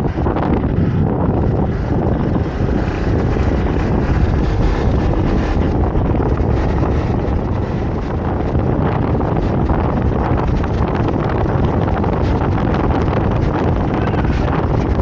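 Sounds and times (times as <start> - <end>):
motorcycle running: 0.0 - 15.0
wind rushing over microphone: 0.0 - 15.0.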